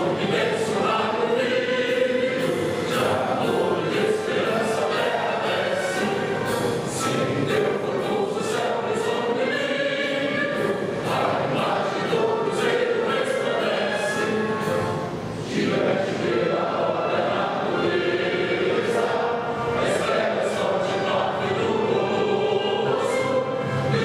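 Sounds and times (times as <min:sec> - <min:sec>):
choir singing with accompaniment: 0:00.0 - 0:24.0.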